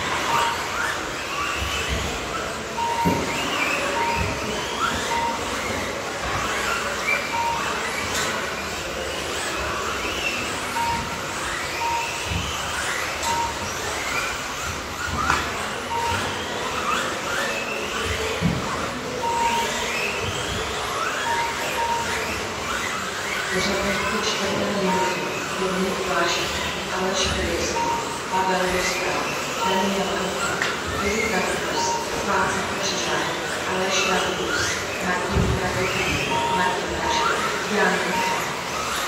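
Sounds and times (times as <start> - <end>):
short electronic beep: 0.0 - 1.0, 2.7 - 8.4, 9.8 - 14.3, 15.0 - 18.4, 19.0 - 39.0
rc car motors whining: 0.0 - 39.0.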